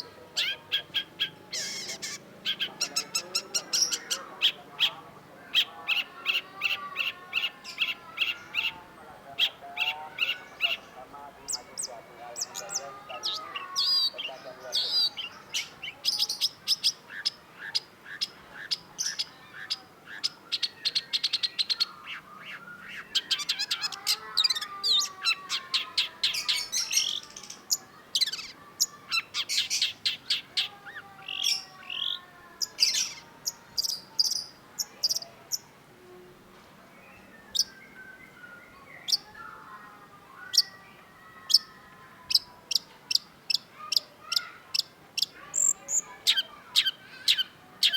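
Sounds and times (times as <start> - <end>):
bird singing chirps and trills: 0.0 - 35.7, 36.9 - 47.9.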